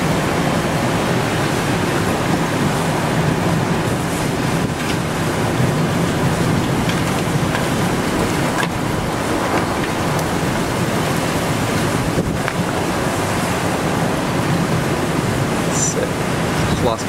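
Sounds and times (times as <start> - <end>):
wind and heavy rain roaring: 0.0 - 17.0.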